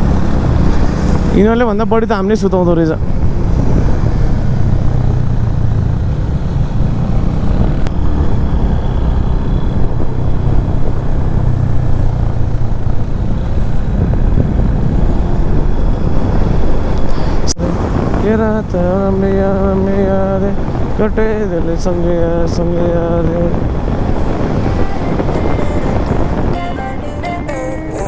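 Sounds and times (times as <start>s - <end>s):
motorcycle engine rumble: 0.0s - 28.0s
wind noise on microphone: 0.0s - 28.0s.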